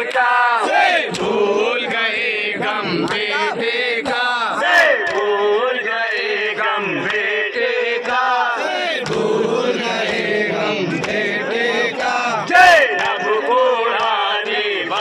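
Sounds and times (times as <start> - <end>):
crowd of men chanting: 0.0 - 15.0.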